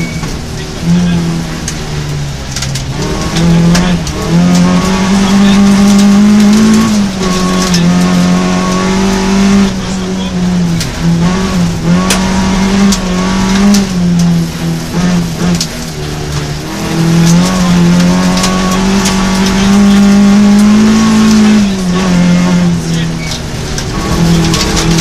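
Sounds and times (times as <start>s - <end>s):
car engine revving: 0.0s - 25.0s
gravel ticking against car: 0.0s - 25.0s.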